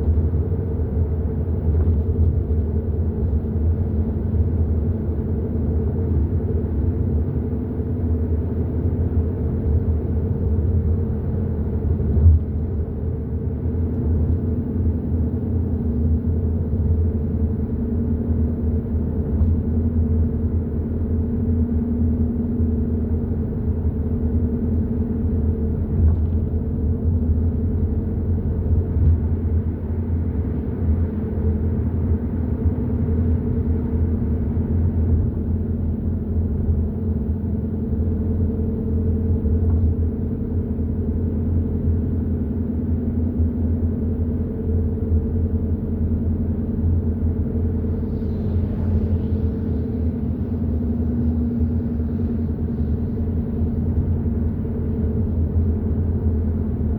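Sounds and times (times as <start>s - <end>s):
engine and drivetrain hum: 0.0s - 56.9s
road rumble: 0.0s - 56.9s.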